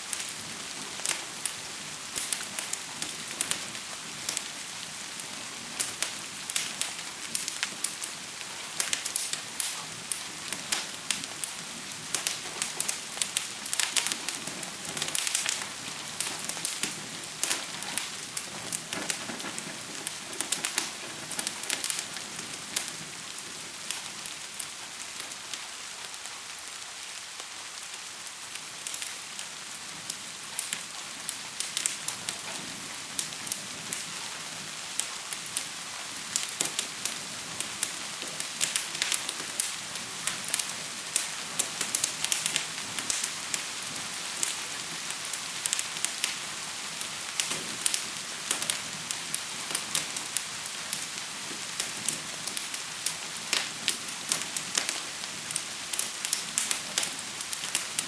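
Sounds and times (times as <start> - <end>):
fire crackling and popping: 0.0 - 58.0
gentle rain hissing: 0.0 - 58.0.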